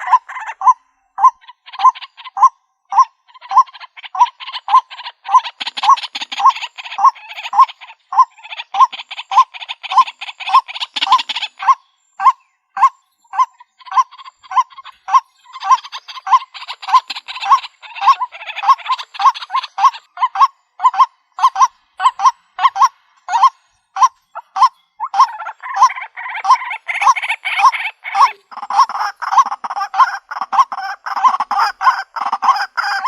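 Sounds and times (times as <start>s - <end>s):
bird calling harsh notes: 0.0s - 33.0s
bird chattering: 0.0s - 33.0s.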